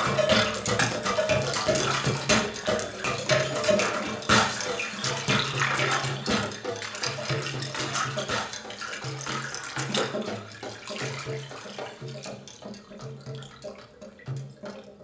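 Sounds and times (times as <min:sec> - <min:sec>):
dense crackling splashing noise: 0:00.0 - 0:15.0.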